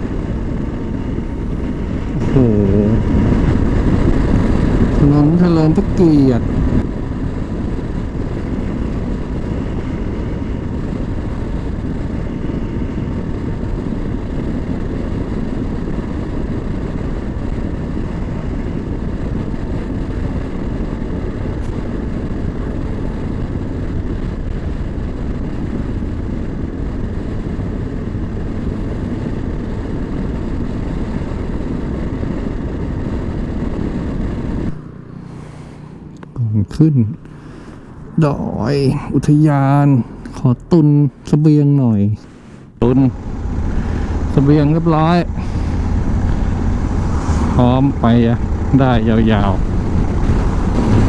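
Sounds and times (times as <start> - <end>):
motorcycle engine drone: 0.0 - 51.0
wind rush: 0.0 - 51.0.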